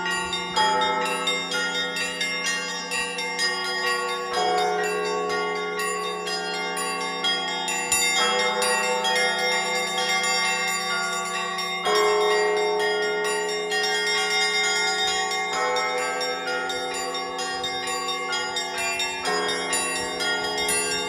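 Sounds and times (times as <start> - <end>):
middle church bells: 0.0 - 21.0
rapid small church bells: 0.0 - 21.0.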